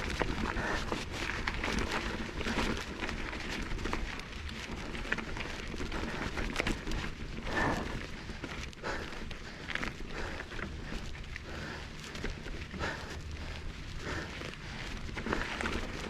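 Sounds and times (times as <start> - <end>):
bicycle clicks and rattles: 0.0 - 16.0
footsteps crunching on dirt: 0.0 - 16.0.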